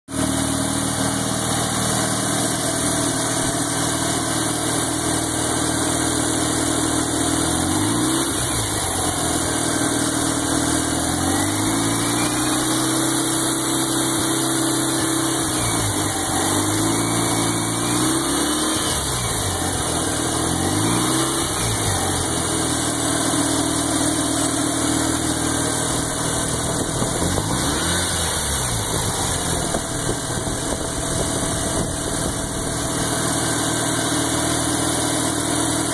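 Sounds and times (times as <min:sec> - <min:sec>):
rotary engine idling and revving: 0:00.0 - 0:35.9.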